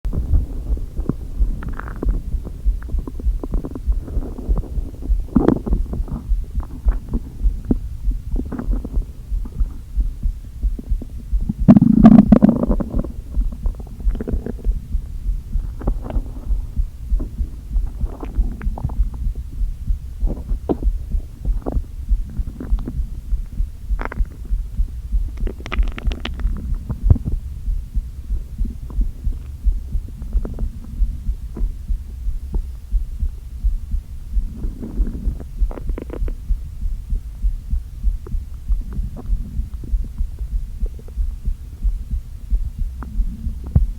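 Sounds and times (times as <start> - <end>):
low heartbeat pulse: 0.0 - 43.9
stomach gurgling and rumbling: 0.1 - 43.9.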